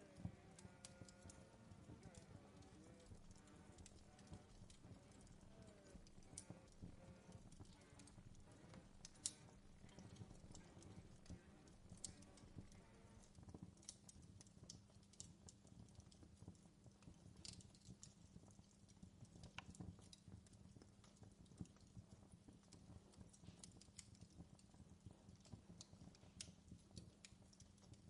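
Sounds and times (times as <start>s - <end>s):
campfire crackling and popping: 0.0s - 28.0s
low rumble of fire: 0.0s - 28.0s.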